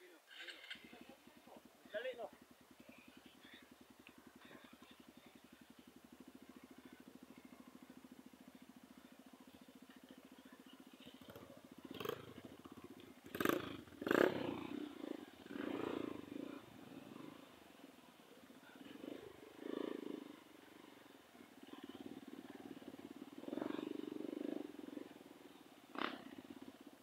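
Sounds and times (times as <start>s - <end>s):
motorcycle engine idling: 0.1s - 27.0s.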